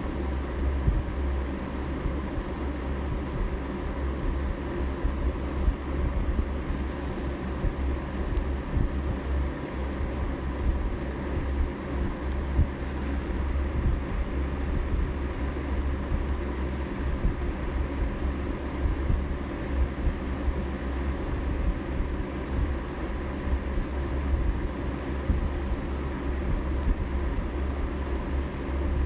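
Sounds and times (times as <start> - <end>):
faint hum: 0.0 - 29.0.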